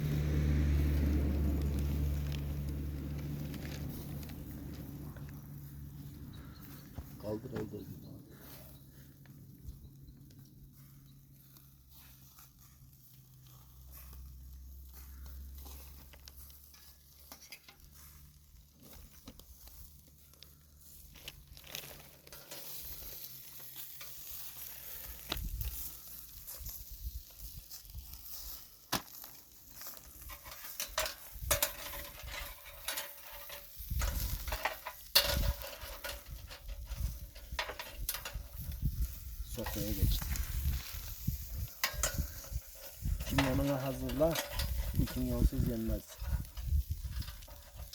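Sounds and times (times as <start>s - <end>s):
fire crackles and knocks: 0.0s - 47.9s
skewers sizzling over fire: 0.0s - 47.9s.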